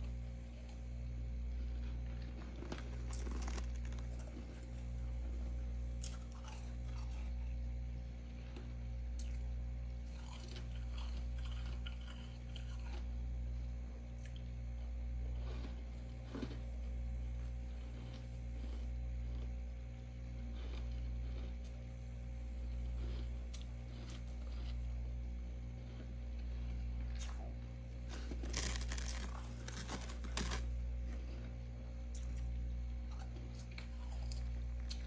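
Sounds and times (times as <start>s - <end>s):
frost crunching as chewed: 0.0s - 13.2s, 14.1s - 35.0s
low hum: 0.0s - 35.0s.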